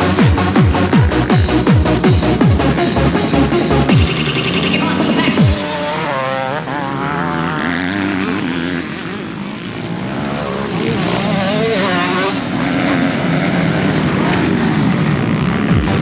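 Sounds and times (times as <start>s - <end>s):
motocross engines revving: 0.0s - 16.0s.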